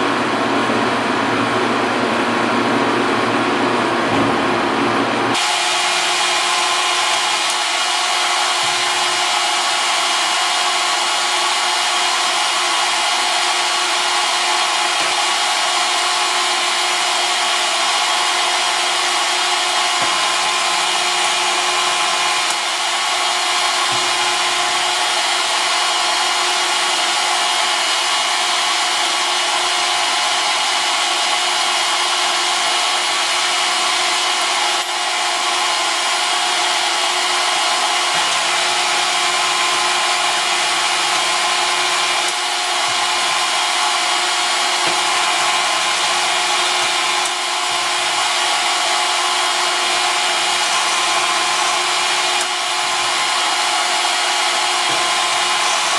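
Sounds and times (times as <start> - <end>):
metal lathe whirring: 0.0 - 55.9.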